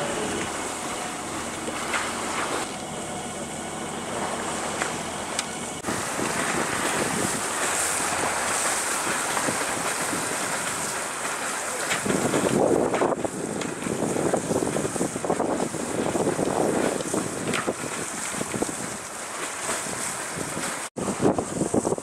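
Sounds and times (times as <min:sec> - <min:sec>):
choppy sea and boat wake: 0:00.0 - 0:22.0
wind buffeting microphone: 0:03.6 - 0:22.0.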